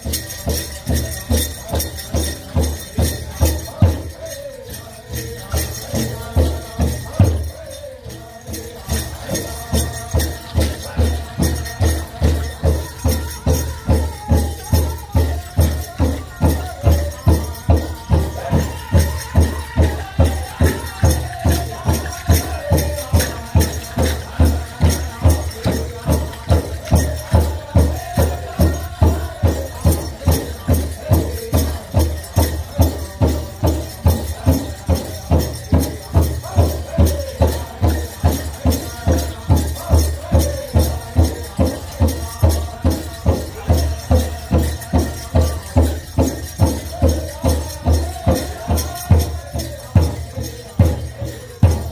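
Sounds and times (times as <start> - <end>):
group singing high-pitched song: 0.0 - 51.9
leg bells jingling: 0.0 - 51.9.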